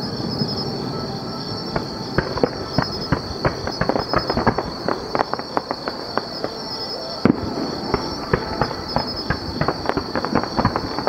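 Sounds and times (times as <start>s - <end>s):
distant fireworks popping and banging: 1.6s - 11.0s.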